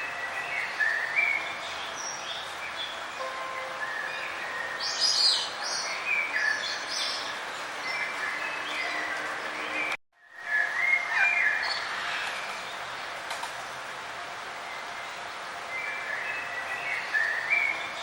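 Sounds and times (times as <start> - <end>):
small birds chirping and trilling: 0.0 - 13.3, 14.4 - 18.0
steady background hiss: 0.0 - 18.0.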